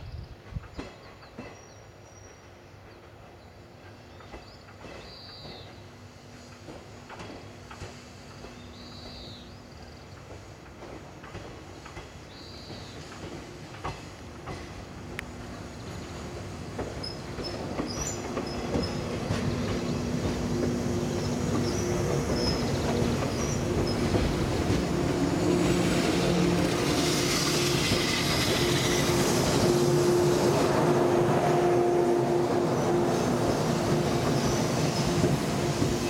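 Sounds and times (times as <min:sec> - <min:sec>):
low hum of train equipment: 0:00.0 - 0:36.0
train wheels passing: 0:00.3 - 0:36.0.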